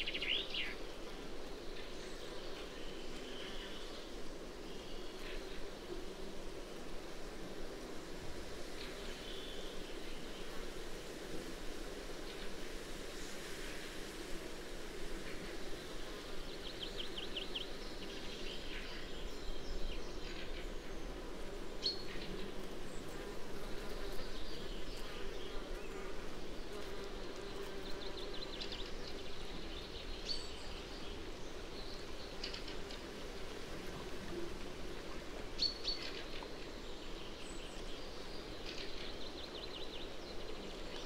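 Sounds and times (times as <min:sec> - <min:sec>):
flying insects buzzing: 0:00.0 - 0:41.0.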